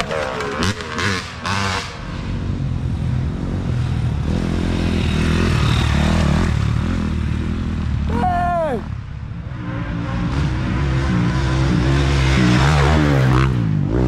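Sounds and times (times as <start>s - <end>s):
dirt bike engine revving: 0.0s - 14.0s
dirt bike passing: 0.0s - 14.0s.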